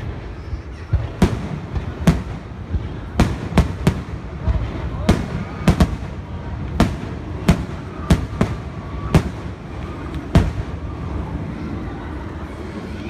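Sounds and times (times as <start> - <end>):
fireworks bursting with sharp bangs: 0.0 - 11.5.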